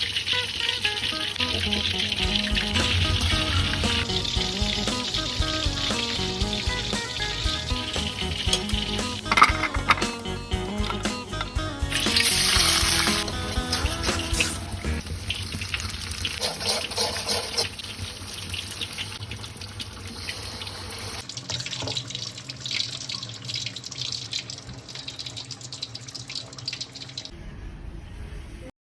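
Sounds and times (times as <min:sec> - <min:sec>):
tap water running into sink: 0:00.0 - 0:27.3.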